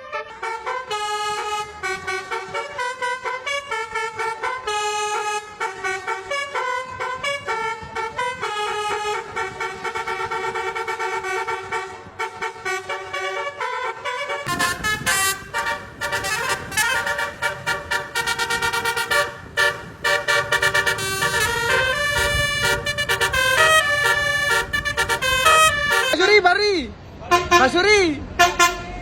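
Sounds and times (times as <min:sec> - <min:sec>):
harsh horn with deep rumble: 0:00.0 - 0:26.2, 0:27.3 - 0:29.0
musical horn playing a tune: 0:00.0 - 0:26.2, 0:27.3 - 0:27.8, 0:28.4 - 0:29.0.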